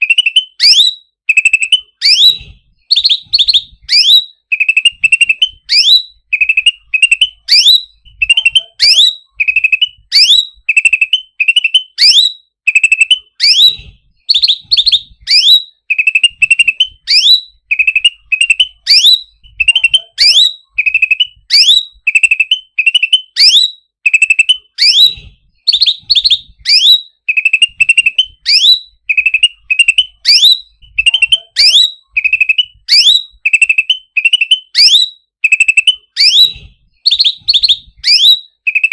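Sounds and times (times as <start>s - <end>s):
songbird trilling and whistling: 0.0s - 38.9s.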